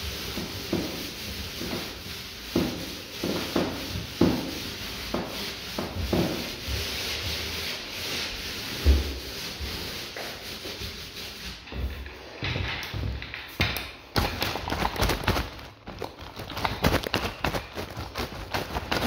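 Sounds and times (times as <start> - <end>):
paint roller swishing on wall: 0.0 - 19.0.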